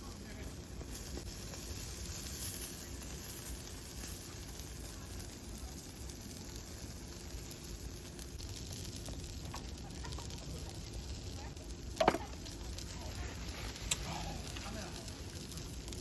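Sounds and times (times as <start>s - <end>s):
faint fire crackles: 0.0s - 16.0s
fire burning with hiss: 0.0s - 16.0s.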